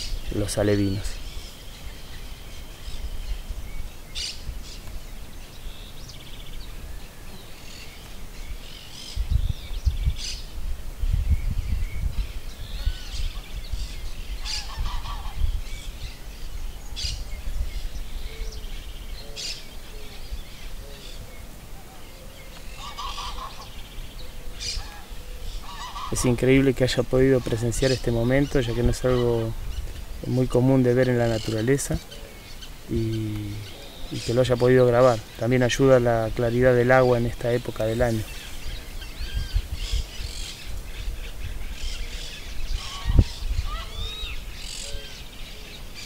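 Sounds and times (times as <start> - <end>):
birds calling: 0.0 - 46.0.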